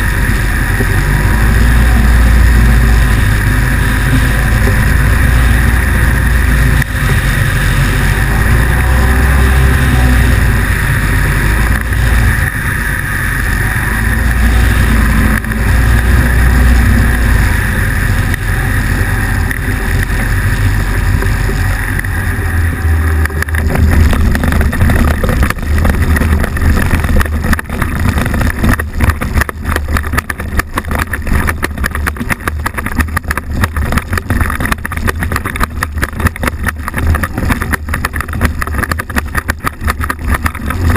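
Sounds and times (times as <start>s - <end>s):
engine and propeller running: 0.0s - 40.9s
wind on microphone: 0.0s - 40.9s.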